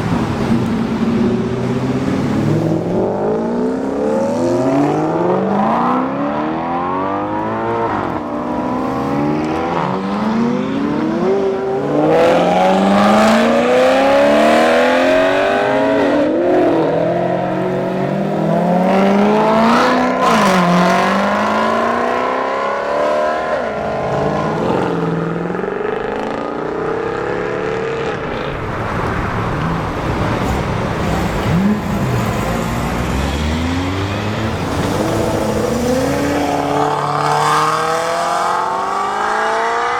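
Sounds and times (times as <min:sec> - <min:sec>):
sports car engines accelerating: 0:00.0 - 0:39.9.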